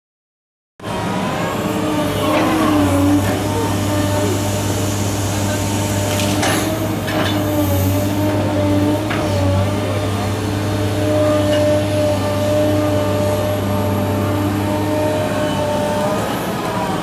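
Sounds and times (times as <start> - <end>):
excavator diesel engine running: 0.8 - 17.0.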